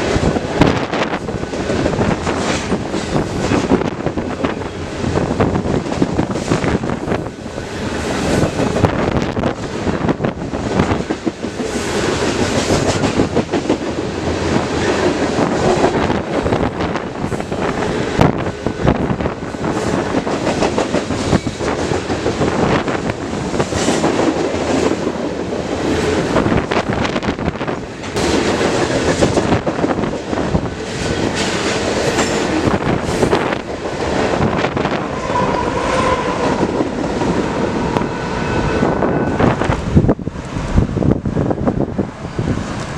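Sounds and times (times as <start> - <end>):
freight train cars rumbling past: 0.0 - 42.9.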